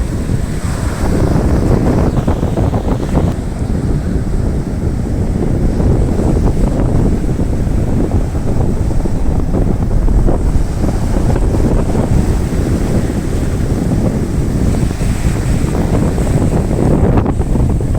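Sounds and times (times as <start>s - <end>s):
waves breaking on shore: 0.0s - 17.9s
wind buffeting microphone: 0.0s - 17.9s.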